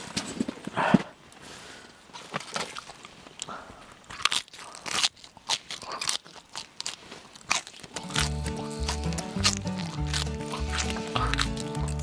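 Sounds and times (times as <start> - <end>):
crunching raw food: 2.1 - 12.0.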